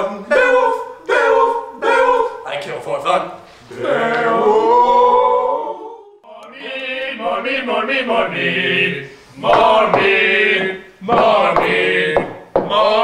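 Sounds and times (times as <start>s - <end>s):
male voices chanting: 0.0s - 2.5s, 3.7s - 13.0s.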